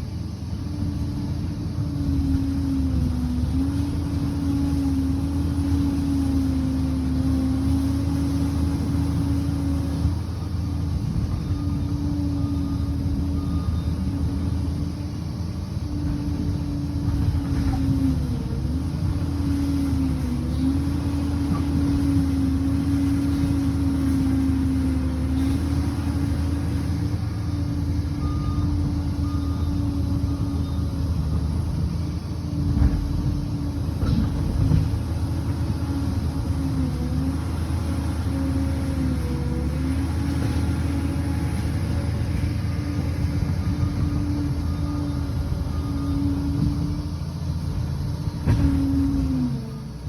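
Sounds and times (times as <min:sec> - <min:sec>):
bulldozer diesel engine humming: 0:00.0 - 0:50.0.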